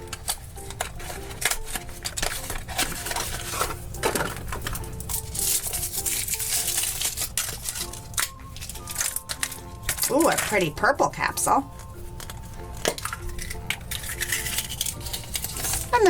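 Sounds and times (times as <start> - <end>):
foil wrapper crinkling: 0.0 - 16.0
quiet background music: 0.0 - 16.0.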